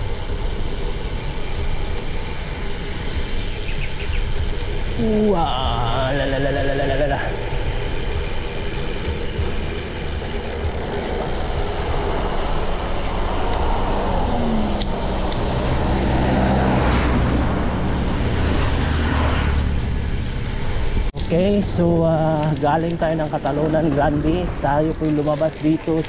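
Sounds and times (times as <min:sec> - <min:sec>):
road noise: 0:00.0 - 0:26.0
vehicle engines passing: 0:00.0 - 0:26.0.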